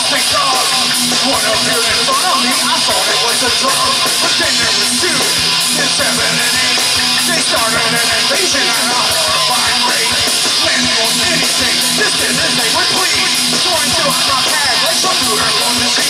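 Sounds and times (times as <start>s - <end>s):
bass guitar: 0.0s - 16.0s
drum kit steady beat: 0.0s - 16.0s
electric guitars: 0.0s - 16.0s
man singing into a microphone: 0.0s - 16.0s.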